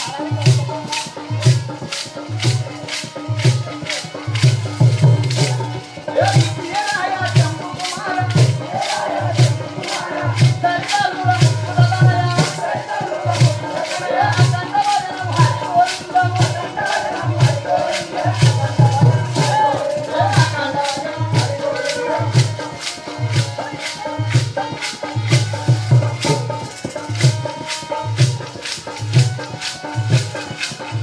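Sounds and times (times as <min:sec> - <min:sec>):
group singing: 0:00.0 - 0:31.0.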